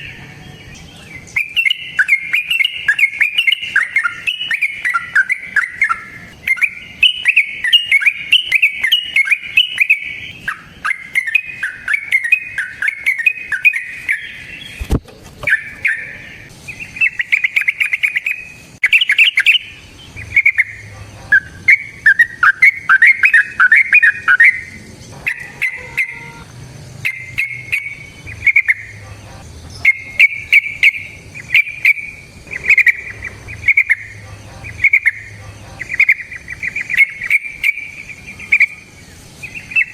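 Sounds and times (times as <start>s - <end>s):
bird singing bubbly song: 0.0s - 39.9s.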